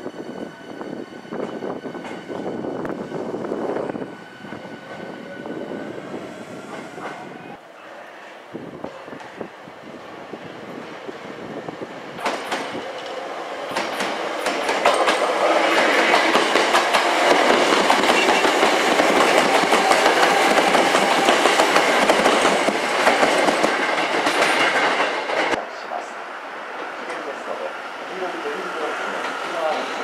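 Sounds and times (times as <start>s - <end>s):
electric train running past: 0.0s - 30.0s.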